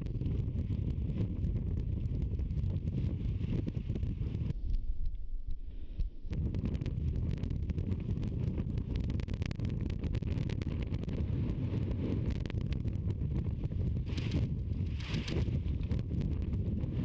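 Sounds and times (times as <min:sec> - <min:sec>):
wind buffeting microphone: 0:00.0 - 0:05.0, 0:06.1 - 0:17.0.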